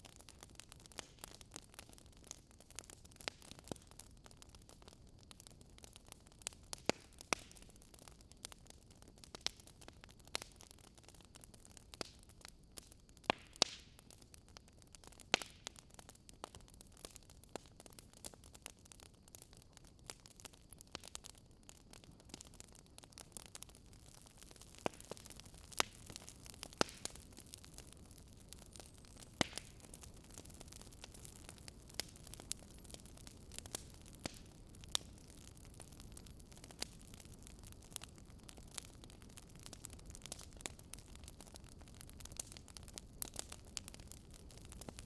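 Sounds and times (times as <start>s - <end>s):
faint steady hiss: 0.0s - 45.0s
wood fire crackling: 0.0s - 45.0s.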